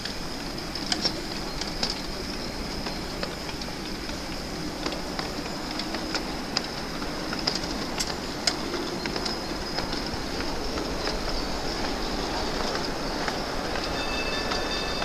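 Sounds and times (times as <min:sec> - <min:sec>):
wheels clicking over rail joints: 0:00.0 - 0:15.0.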